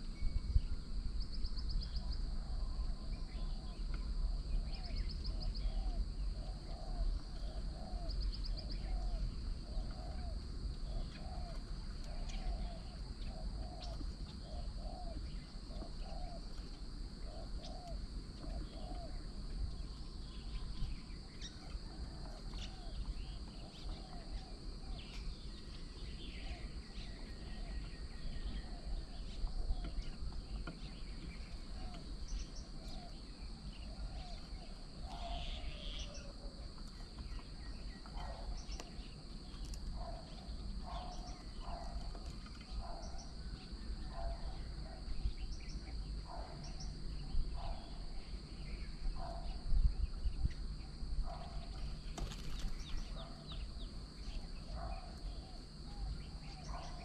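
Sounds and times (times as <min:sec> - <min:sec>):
birds chirping: 0:00.0 - 0:57.0
high insect drone: 0:00.0 - 0:57.0
bird repeating low call: 0:01.7 - 0:16.5, 0:17.2 - 0:36.5, 0:37.6 - 0:49.6.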